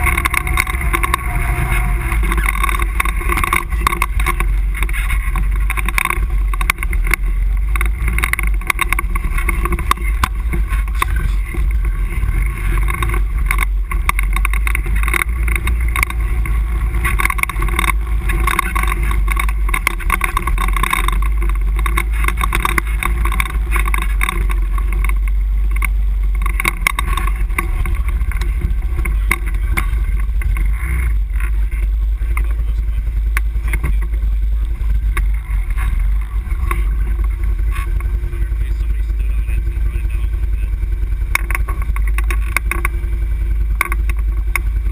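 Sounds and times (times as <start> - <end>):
quad engine running: 0.0 - 44.9.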